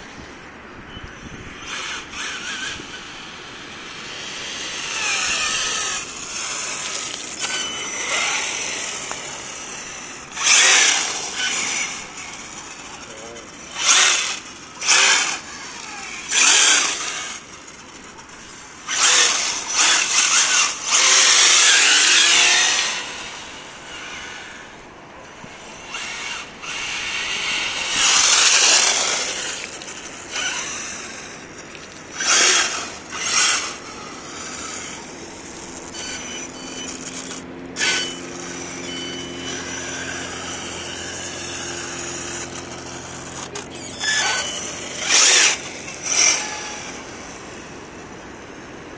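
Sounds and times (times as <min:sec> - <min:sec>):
electric motor whining: 0:00.0 - 0:48.9.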